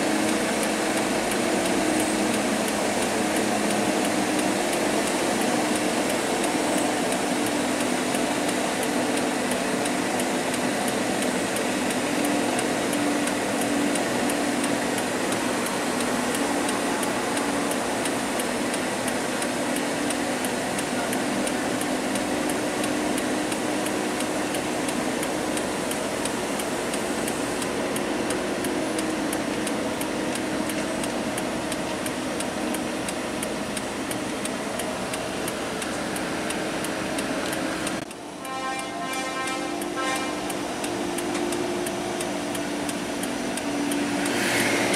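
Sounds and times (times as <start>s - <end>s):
faint even ticking: 0.0s - 44.9s
low engine drone: 0.0s - 44.9s
tyre and road hiss: 0.0s - 44.9s.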